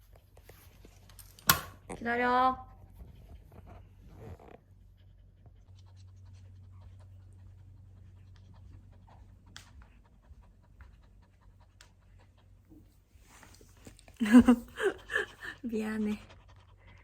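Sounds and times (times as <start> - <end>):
dog panting softly: 2.0 - 17.0.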